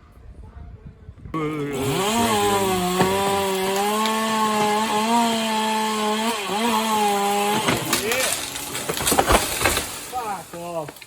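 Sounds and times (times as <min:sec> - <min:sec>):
chainsaw cutting wood: 0:01.4 - 0:11.0.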